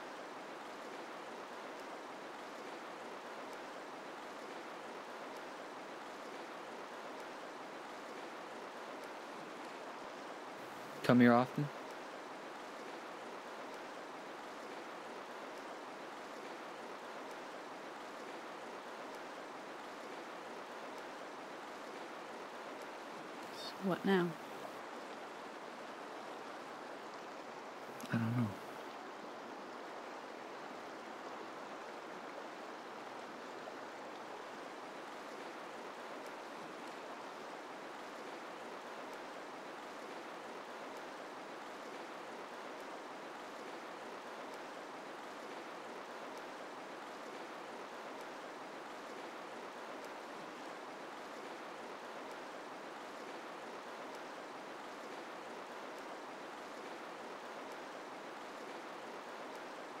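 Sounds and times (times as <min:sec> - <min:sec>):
water rushing over rocks: 0:00.0 - 1:00.0.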